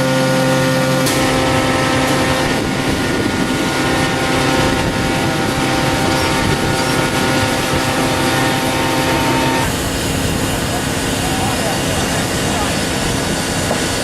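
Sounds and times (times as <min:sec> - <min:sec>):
machine humming: 0:00.0 - 0:14.0.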